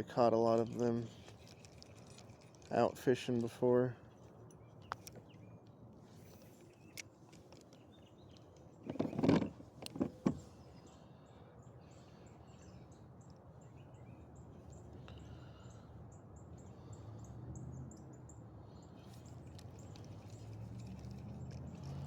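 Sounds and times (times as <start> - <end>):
low steady background rumble: 0.0 - 22.0
small birds chirping faintly: 0.0 - 22.0.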